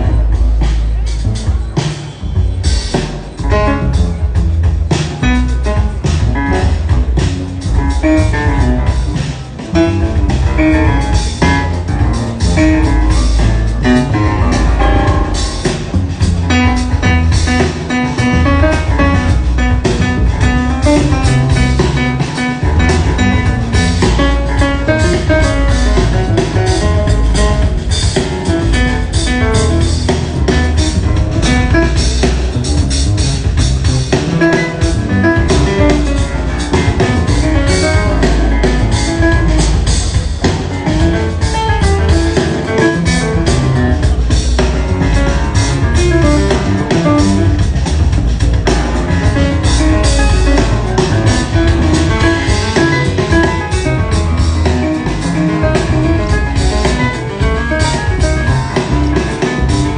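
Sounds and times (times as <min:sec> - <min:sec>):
bass line: 0:00.0 - 0:59.9
drum kit beat: 0:00.0 - 0:59.9
melodic instrument notes: 0:00.0 - 0:59.9.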